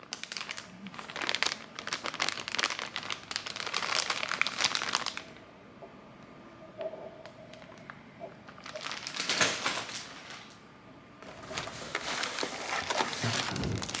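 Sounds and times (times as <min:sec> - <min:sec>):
plastic packaging crinkling: 0:00.0 - 0:05.5, 0:07.2 - 0:10.6, 0:11.2 - 0:14.0.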